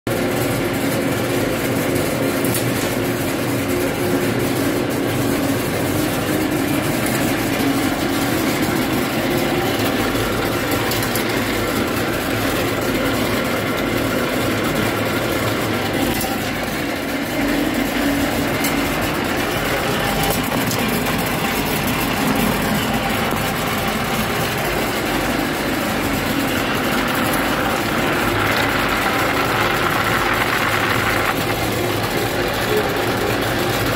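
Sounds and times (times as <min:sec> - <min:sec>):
sorting machine running: 0:00.2 - 0:33.9.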